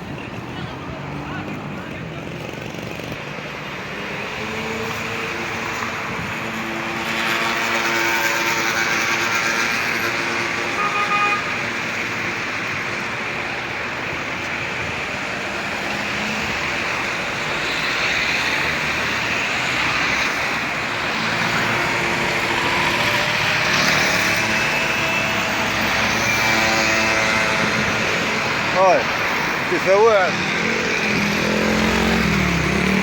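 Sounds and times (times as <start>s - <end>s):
cars going by: 0.0s - 33.0s.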